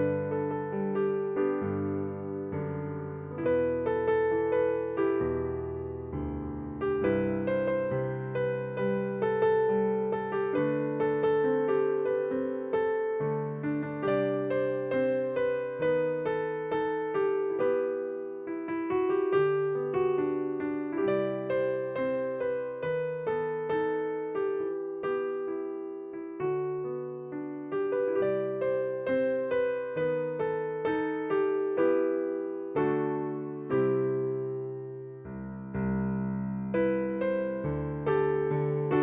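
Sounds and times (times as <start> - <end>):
slow hymn on piano: 0.0 - 39.0.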